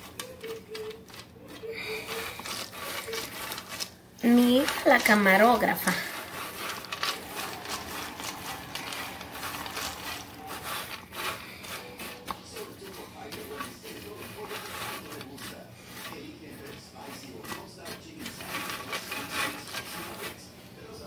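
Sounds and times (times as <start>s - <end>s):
seeds scraping in hot pan: 0.0s - 21.0s.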